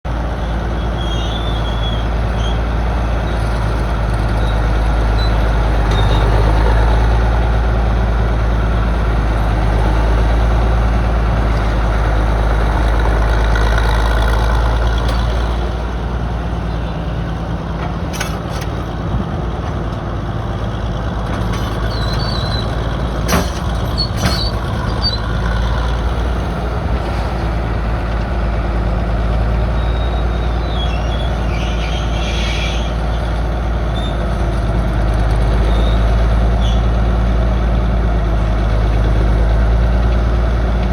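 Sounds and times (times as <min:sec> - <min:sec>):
excavator engine running: 0:00.1 - 0:32.2, 0:33.0 - 0:40.9.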